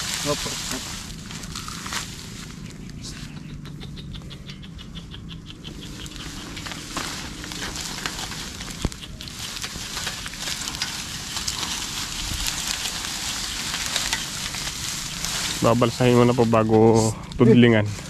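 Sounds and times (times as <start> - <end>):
grass being raked: 0.0 - 3.2, 6.0 - 18.0.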